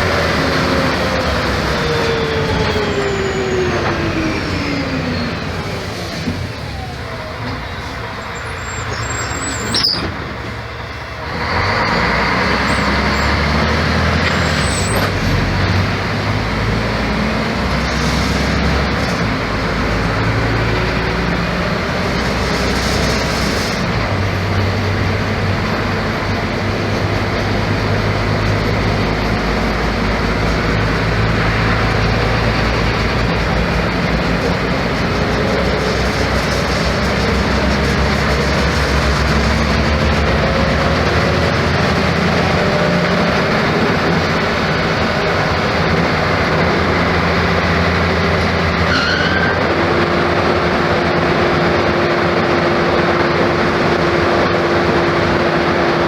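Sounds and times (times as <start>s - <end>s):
bus diesel engine: 0.0s - 56.0s.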